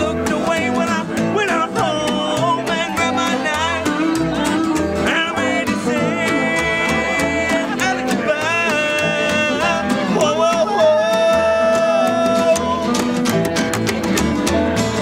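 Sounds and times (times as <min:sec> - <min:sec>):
dobro: 0:00.0 - 0:15.0
mandolin: 0:00.0 - 0:15.0
strummed acoustic guitar: 0:00.0 - 0:15.0.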